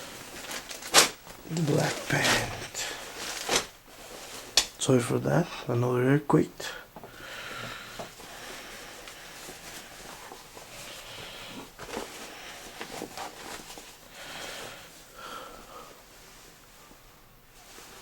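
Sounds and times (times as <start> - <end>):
cloth rustling: 0.0 - 4.9, 7.6 - 18.0.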